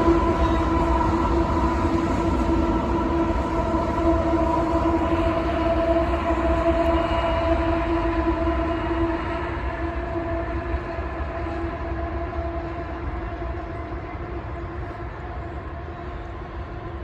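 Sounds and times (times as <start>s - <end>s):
steady humming tone: 0.0s - 17.0s
train rumbling past: 0.0s - 17.0s.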